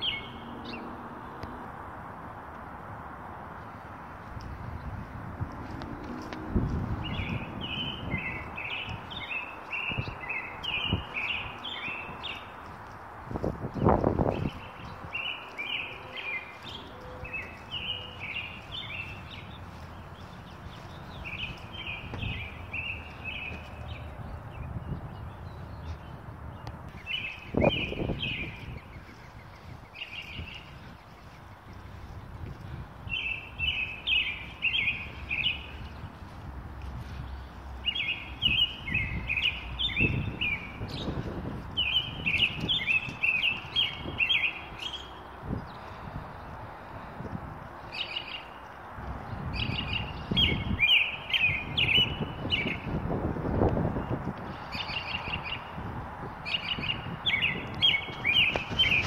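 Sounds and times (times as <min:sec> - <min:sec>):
songbird chirping: 0:00.0 - 0:01.8, 0:03.6 - 0:47.1, 0:47.8 - 0:52.9.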